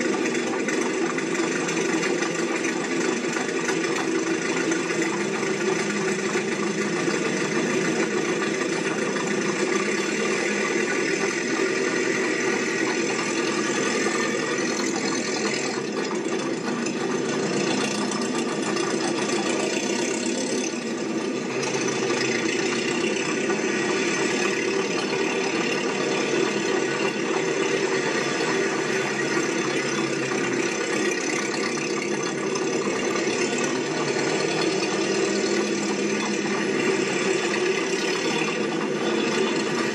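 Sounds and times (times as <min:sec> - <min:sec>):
machine rattling: 0:00.0 - 0:39.9.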